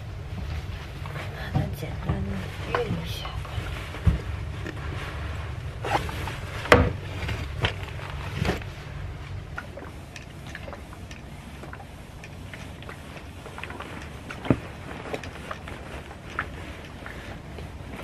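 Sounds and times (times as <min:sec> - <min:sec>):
clothes being handled: 0:00.0 - 0:18.0.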